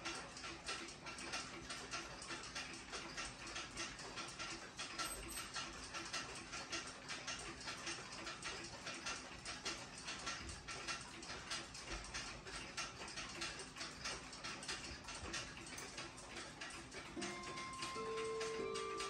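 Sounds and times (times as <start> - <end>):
wall clocks ticking: 0.0 - 19.0.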